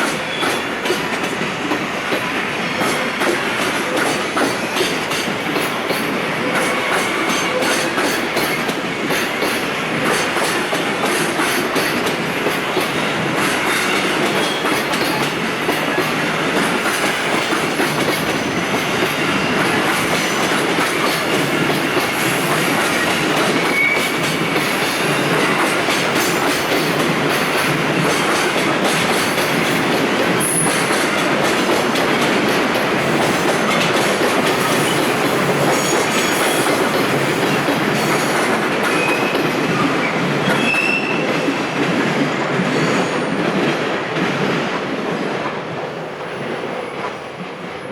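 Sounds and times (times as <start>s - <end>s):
freight train wheels clattering: 0.0s - 45.6s.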